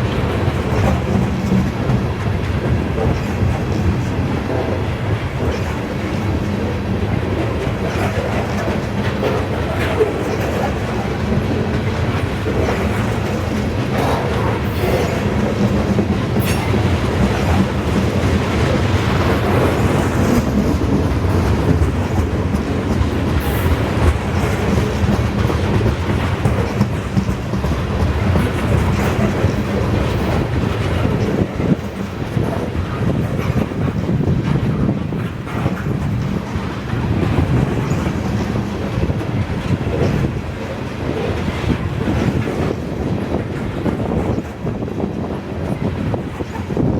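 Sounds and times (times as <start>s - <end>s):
freight train rumble: 0.0s - 46.9s
train wheels clicking over rail joints: 0.0s - 46.9s.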